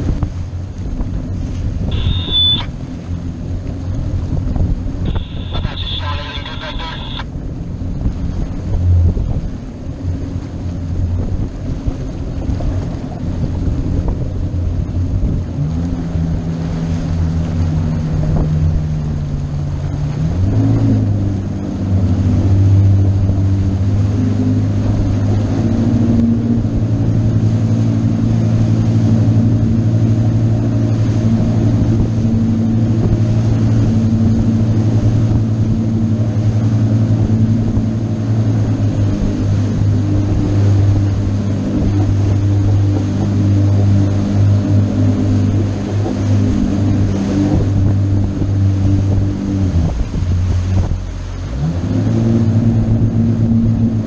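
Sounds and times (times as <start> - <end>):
motorboat engine running: 0.0 - 54.0
water noise: 0.0 - 54.0
wind: 0.0 - 54.0.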